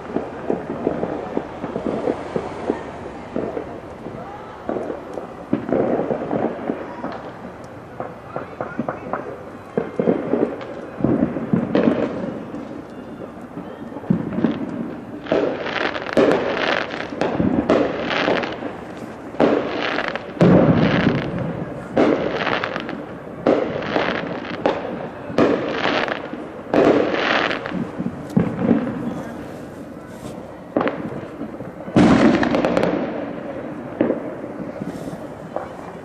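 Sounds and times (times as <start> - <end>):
fireworks banging with echo: 0.0 - 36.0.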